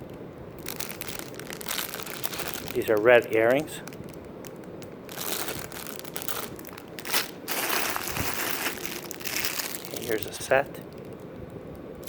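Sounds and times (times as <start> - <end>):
packaging rustling and crinkling: 0.0 - 11.2
sharp crackle: 0.0 - 11.3.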